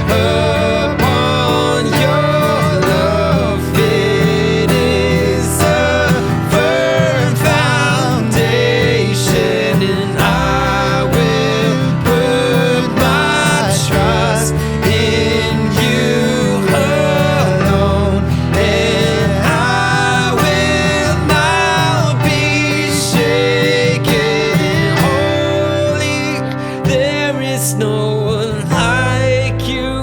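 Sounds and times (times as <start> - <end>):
guitar: 0.0 - 30.0
sustained low bass notes: 0.0 - 30.0
worship band playing: 0.0 - 30.0.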